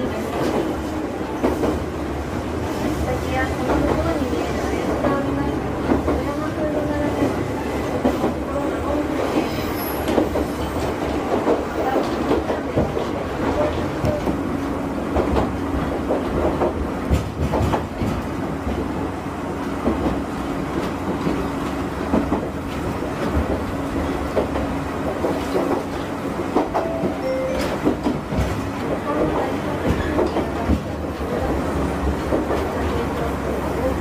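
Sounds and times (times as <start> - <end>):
electric train running hum: 0.0 - 34.0.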